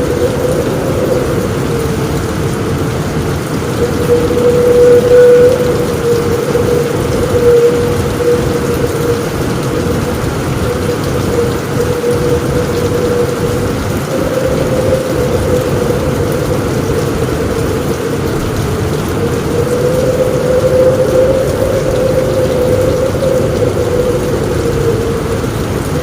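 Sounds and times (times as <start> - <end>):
heavy rain on a roof: 0.0 - 26.0.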